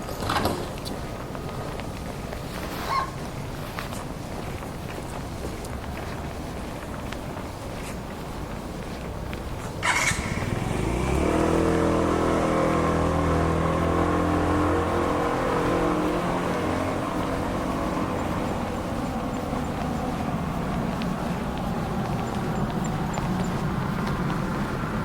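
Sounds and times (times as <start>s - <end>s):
vehicle engine humming: 0.1s - 25.0s.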